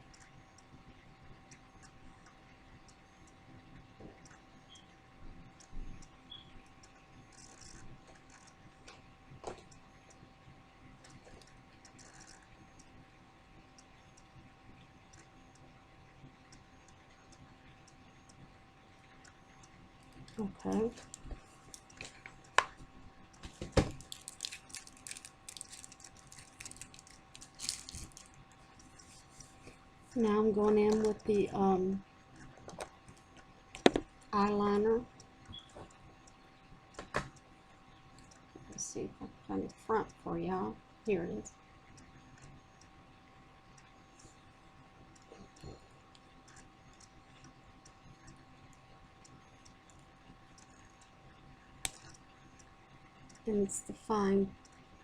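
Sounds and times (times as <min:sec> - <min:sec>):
faint ticks and rustles: 0:00.0 - 0:55.0.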